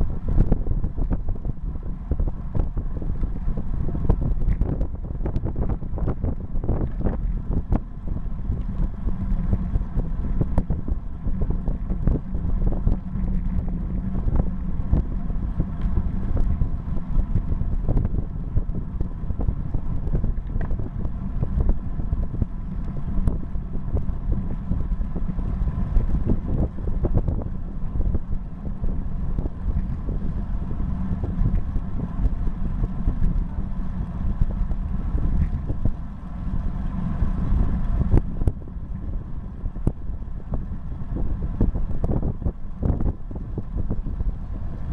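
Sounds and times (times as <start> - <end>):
tyres humming on asphalt: 0.0 - 44.9
wind buffeting microphone: 0.0 - 44.9.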